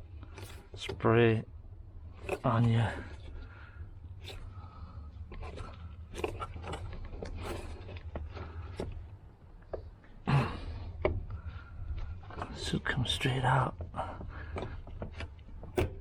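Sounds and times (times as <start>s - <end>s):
steady low hum: 0.0s - 16.0s
clicks and scrapes of plastic fitting: 2.1s - 16.0s.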